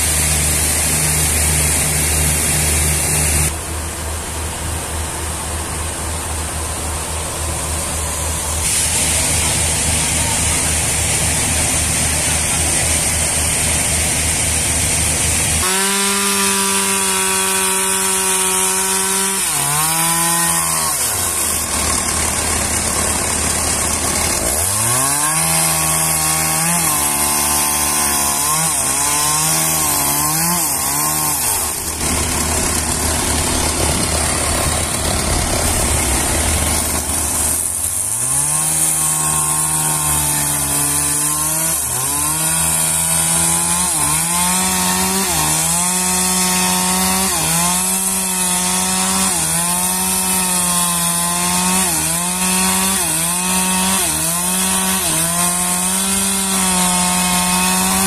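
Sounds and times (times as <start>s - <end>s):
chainsaw cutting wood: 0.0s - 3.6s, 7.7s - 58.0s.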